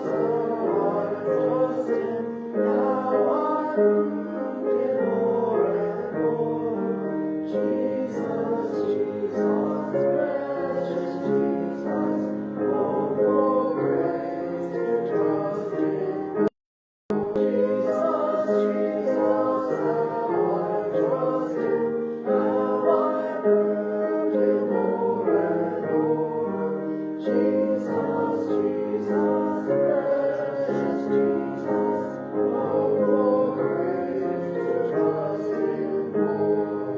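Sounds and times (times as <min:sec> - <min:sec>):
congregation singing a hymn: 0:00.0 - 0:16.5, 0:17.1 - 0:36.9.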